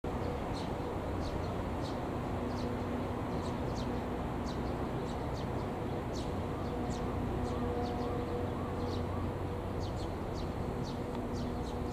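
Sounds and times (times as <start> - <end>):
low background hum: 0.1 - 11.9
songbird chirping: 0.1 - 11.9.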